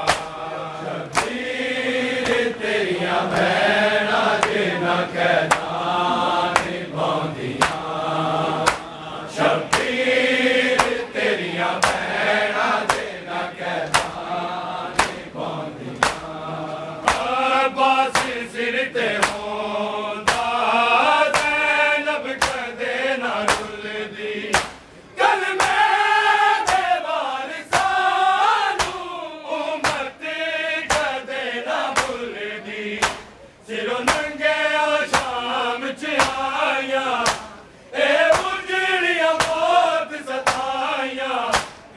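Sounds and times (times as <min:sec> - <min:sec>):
lead reciter: 0:00.0 - 0:41.9
men chanting in unison: 0:00.0 - 0:41.9
rhythmic chest-beating slaps: 0:00.0 - 0:41.9.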